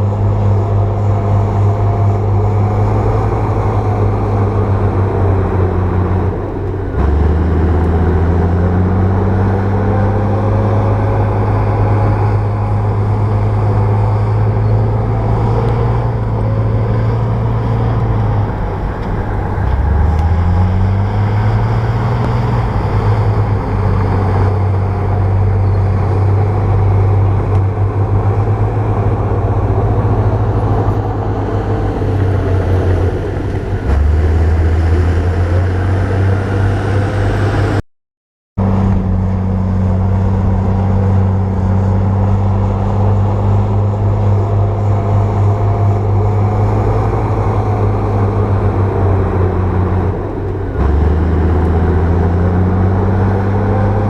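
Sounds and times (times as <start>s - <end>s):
bulldozer diesel engine running: 0.0s - 37.8s, 38.6s - 54.0s.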